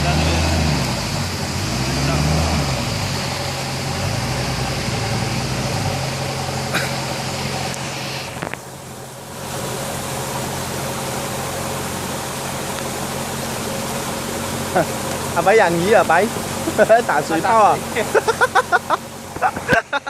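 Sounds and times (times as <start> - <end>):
car engine running: 0.0 - 20.0
constant rushing hiss: 0.0 - 20.0.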